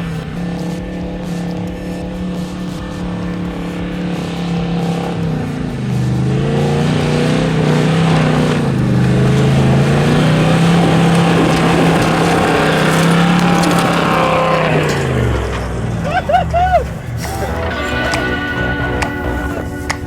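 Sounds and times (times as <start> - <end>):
engine working hard uphill: 0.0 - 20.0.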